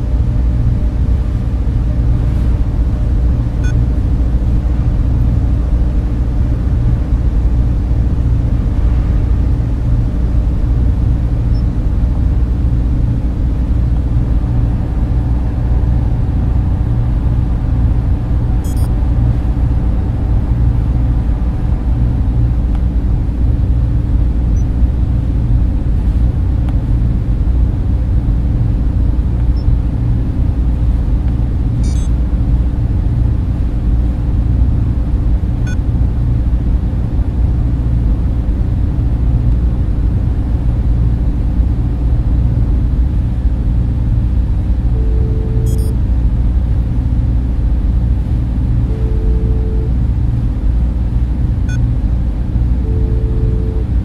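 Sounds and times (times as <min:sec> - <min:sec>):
server cooling fans humming: 0:00.0 - 0:54.0.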